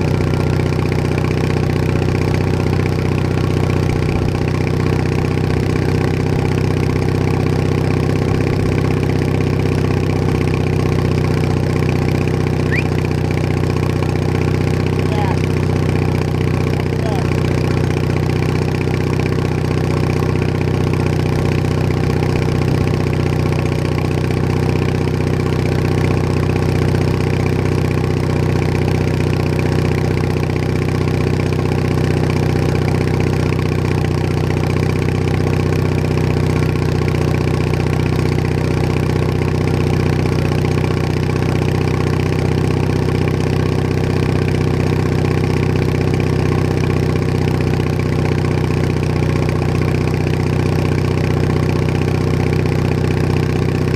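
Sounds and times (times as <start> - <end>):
garden tractor engine running: 0.0 - 53.9.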